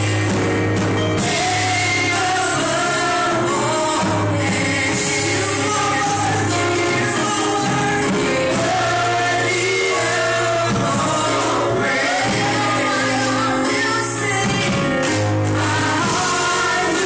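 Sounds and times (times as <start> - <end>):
gospel voices singing over band: 0.0 - 17.0.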